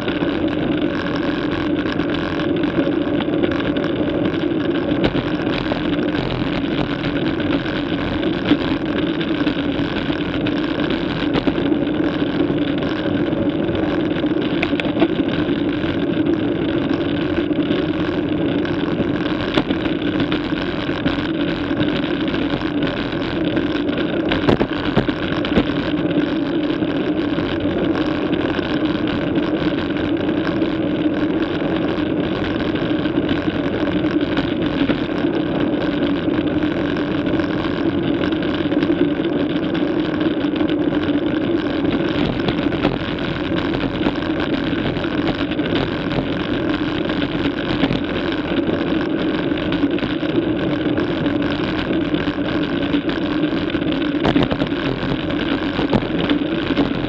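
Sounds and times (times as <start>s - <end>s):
bicycle tyres on asphalt: 0.0s - 57.0s
faint ticks: 0.0s - 57.0s
low hum: 0.0s - 57.0s.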